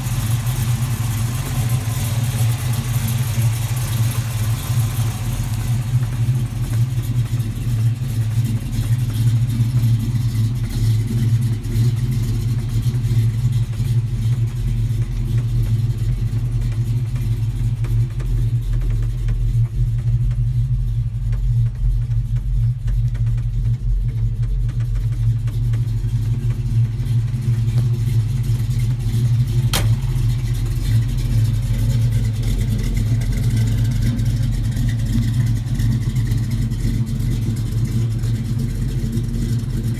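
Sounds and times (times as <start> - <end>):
pickup engine idling: 0.0 - 39.9.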